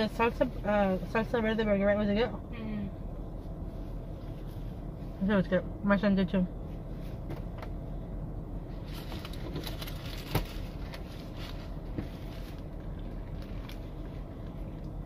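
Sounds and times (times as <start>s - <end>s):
car cabin hum: 0.0s - 15.0s.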